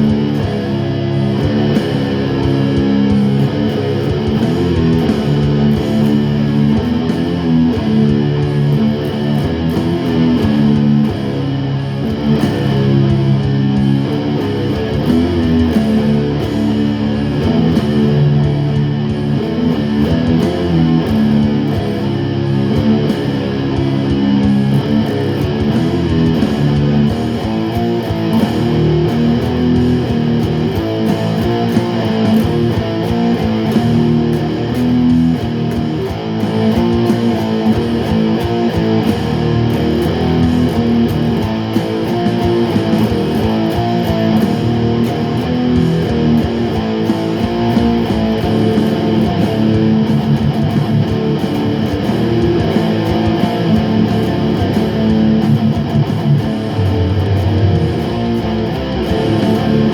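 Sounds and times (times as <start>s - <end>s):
guitar plucked and strummed: 0.0s - 59.9s.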